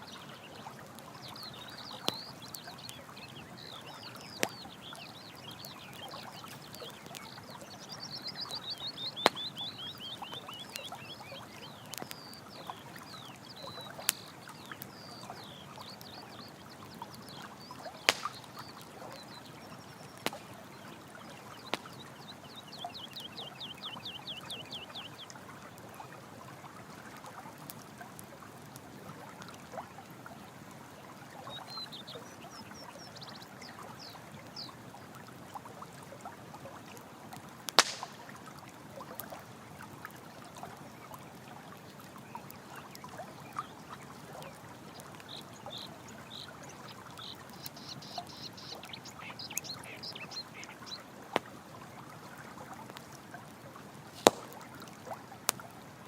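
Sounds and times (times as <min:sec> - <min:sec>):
campfire crackling and popping: 0:00.0 - 0:56.0
running water flowing: 0:00.0 - 0:56.0.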